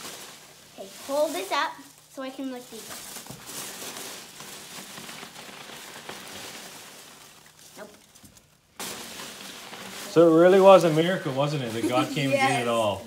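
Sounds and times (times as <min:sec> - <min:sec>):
foam packing peanuts rustling: 0:00.0 - 0:13.0.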